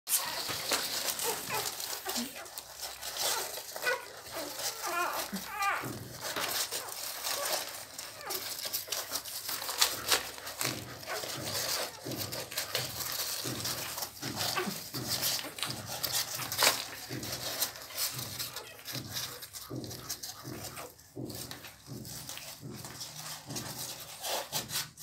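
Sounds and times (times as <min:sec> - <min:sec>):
puppies suckling clicks: 0:00.1 - 0:25.0
soft puppy noises: 0:00.1 - 0:25.0.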